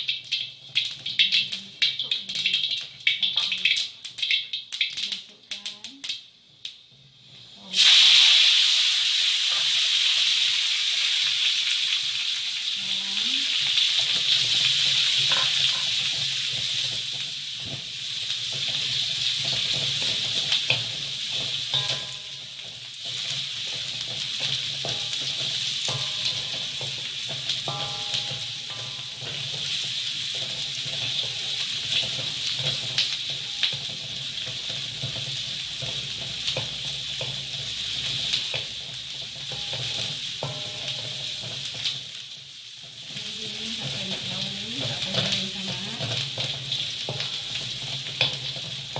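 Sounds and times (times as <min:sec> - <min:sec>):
onion and garlic sizzling in oil: 0:00.0 - 0:48.9.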